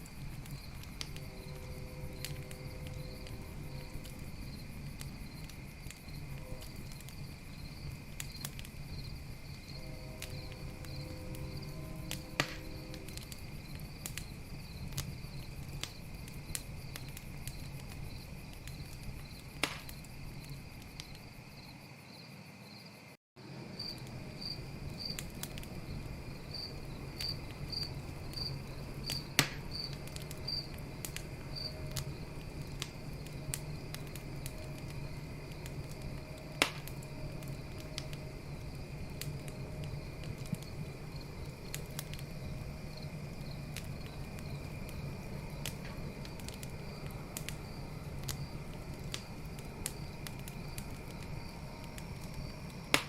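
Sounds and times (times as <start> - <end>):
campfire crackling and popping: 0.0 - 21.4, 23.4 - 53.0.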